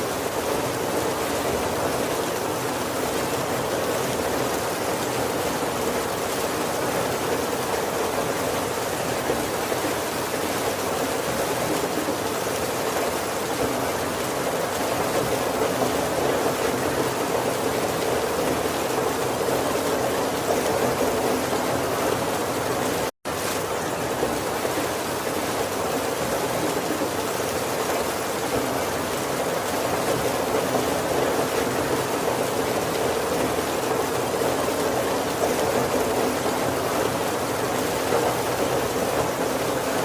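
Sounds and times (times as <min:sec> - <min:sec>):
heavy rain on a roof: 0:00.0 - 0:40.0.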